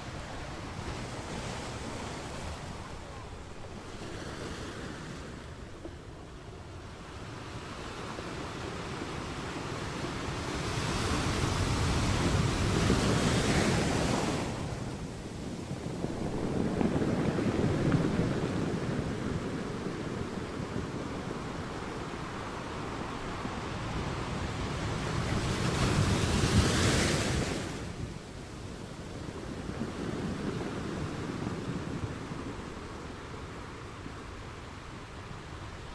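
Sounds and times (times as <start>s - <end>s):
sea waves breaking ashore: 0.0s - 6.7s, 8.1s - 35.9s.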